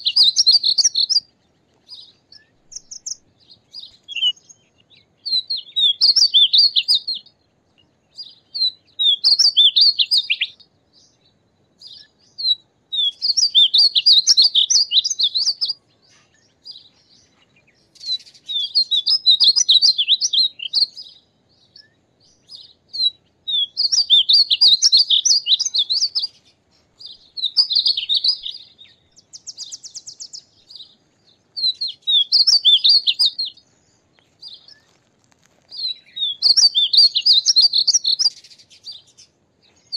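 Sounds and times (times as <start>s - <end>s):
bird singing warbled song: 0.0s - 39.9s.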